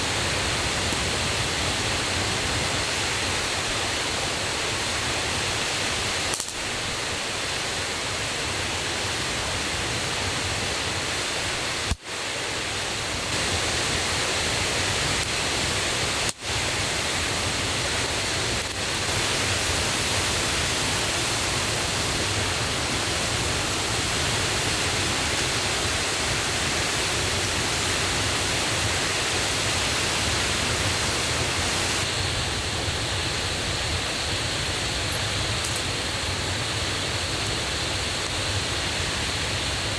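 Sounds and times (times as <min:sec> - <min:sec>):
river and waterfall roaring: 0:00.0 - 0:39.9.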